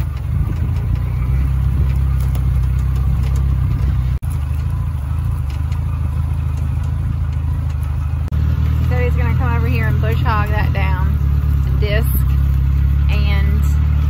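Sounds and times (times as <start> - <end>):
farm vehicle engine droning: 0.0 - 14.0.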